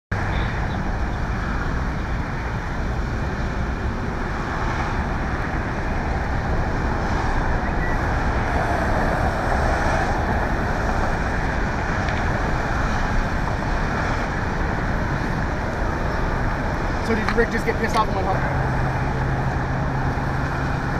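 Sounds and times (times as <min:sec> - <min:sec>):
engine and traffic noise: 0:00.1 - 0:20.9.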